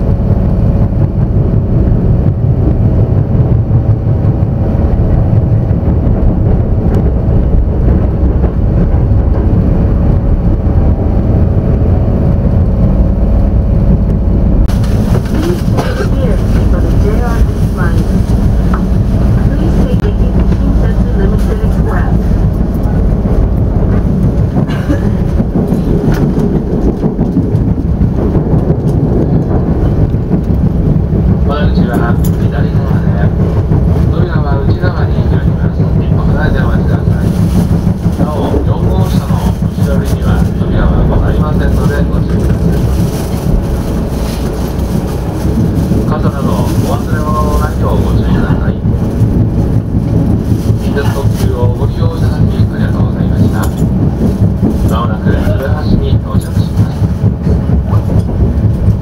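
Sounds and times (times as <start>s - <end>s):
steady hum: 0.0s - 59.0s
train interior rumble: 0.0s - 59.0s.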